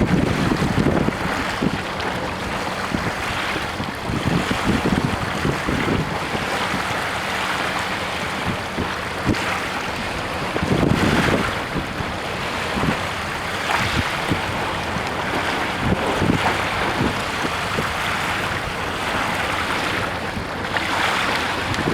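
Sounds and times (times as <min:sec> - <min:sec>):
water rushing past boat hull: 0:00.0 - 0:21.9
wind buffeting microphone: 0:00.0 - 0:21.9.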